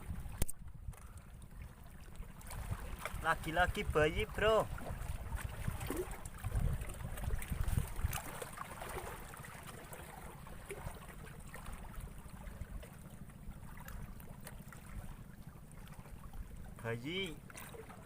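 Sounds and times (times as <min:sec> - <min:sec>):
low rumble on microphone: 0:00.0 - 0:16.8
faint water sounds: 0:00.0 - 0:18.0.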